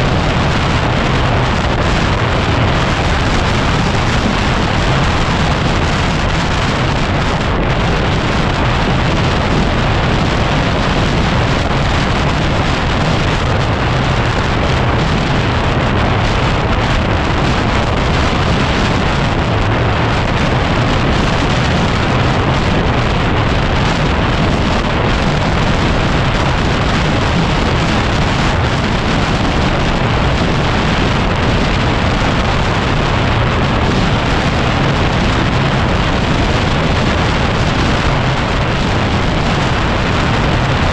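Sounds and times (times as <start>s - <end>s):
heavy wind noise on microphone: 0.0s - 40.9s.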